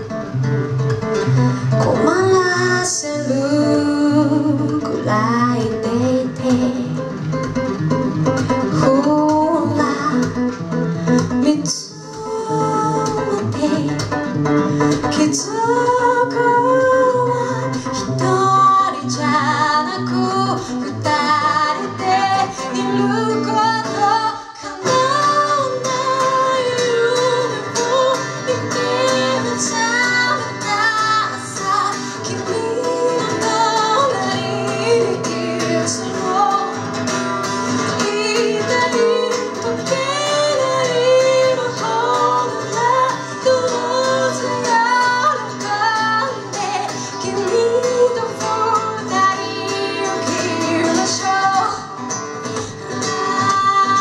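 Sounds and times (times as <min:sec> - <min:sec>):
guitar accompaniment: 0:00.0 - 0:54.0
woman singing: 0:01.6 - 0:07.6, 0:08.4 - 0:54.0.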